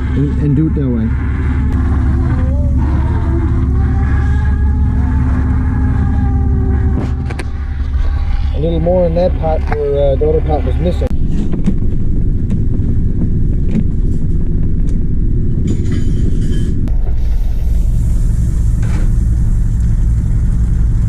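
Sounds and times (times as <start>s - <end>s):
boat engine rumbling: 0.0s - 21.0s.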